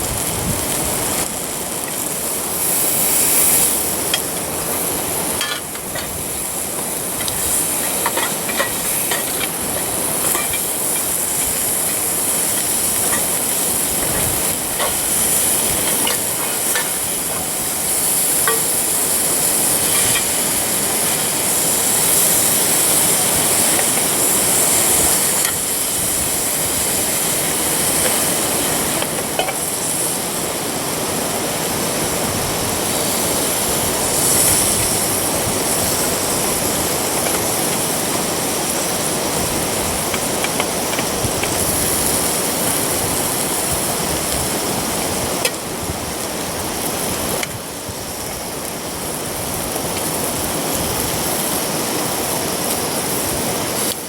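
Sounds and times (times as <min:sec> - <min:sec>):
food sizzling in a pan: 0:00.0 - 0:54.0
wood fire crackling: 0:00.0 - 0:54.0.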